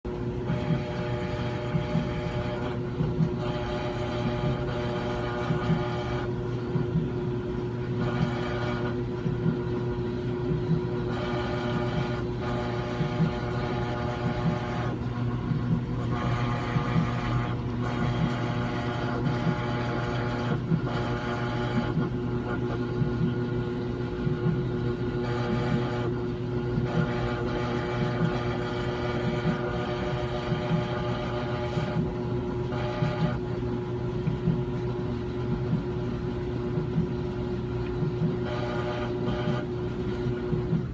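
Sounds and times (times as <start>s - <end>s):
washing machine electrical buzz: 0.0s - 40.9s.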